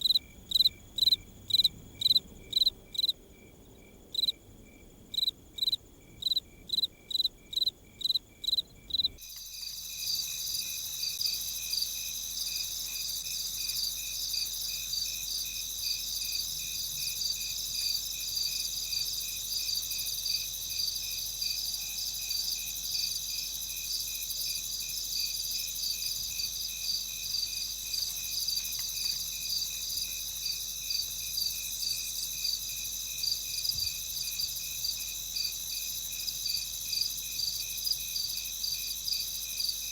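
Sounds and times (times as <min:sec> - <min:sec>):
chorus of crickets trilling: 0:00.0 - 0:39.9
lone cricket chirping: 0:00.0 - 0:39.9.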